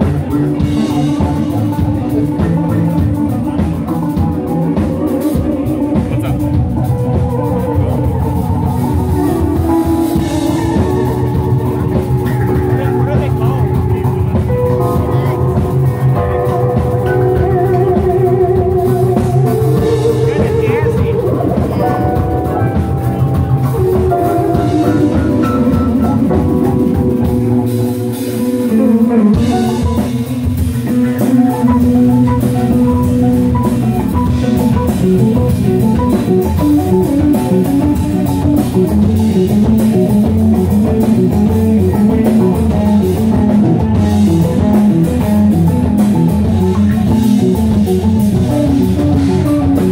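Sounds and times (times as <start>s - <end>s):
drum kit: 0.0s - 49.9s
electric guitar: 0.0s - 49.9s
keyboard: 0.0s - 49.9s.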